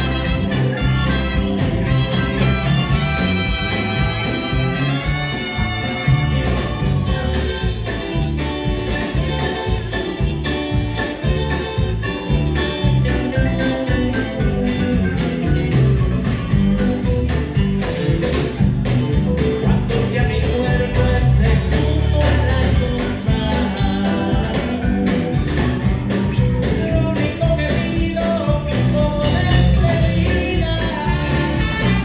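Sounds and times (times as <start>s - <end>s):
live latin dance band: 0.0s - 32.0s.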